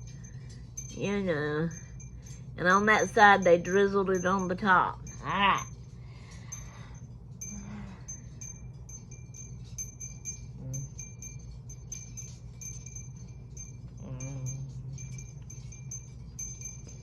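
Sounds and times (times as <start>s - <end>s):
high tinkling chime notes: 0.0s - 17.0s
low steady hum: 0.0s - 17.0s.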